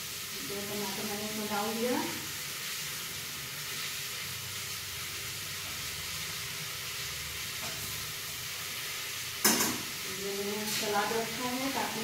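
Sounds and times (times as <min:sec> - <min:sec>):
masala frying sizzle: 0:00.0 - 0:12.0.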